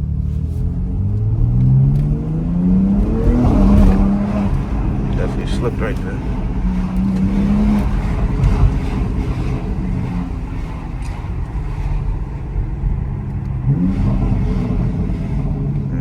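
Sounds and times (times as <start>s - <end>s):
car engine and exhaust accelerating: 0.0s - 16.0s.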